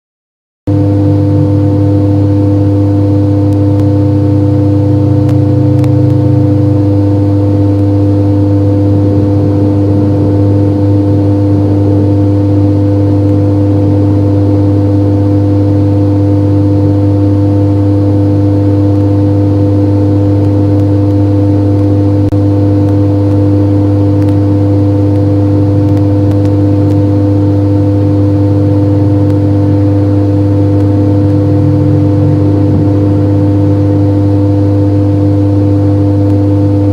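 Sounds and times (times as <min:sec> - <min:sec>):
loud steady multi-pitch hum: 0:00.7 - 0:36.9.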